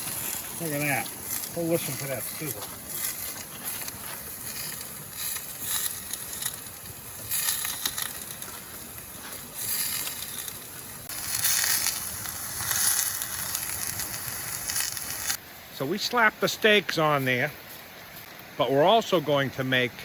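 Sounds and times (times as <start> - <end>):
steaks sizzling over fire: 0.0 - 19.9.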